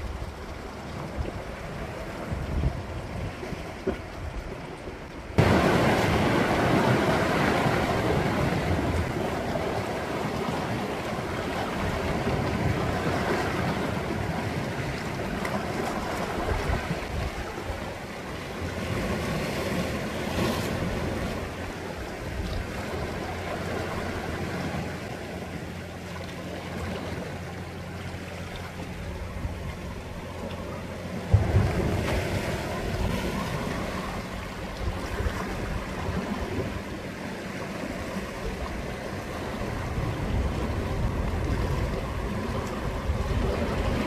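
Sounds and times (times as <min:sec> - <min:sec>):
waves surging against rocks: 0:00.0 - 0:44.0.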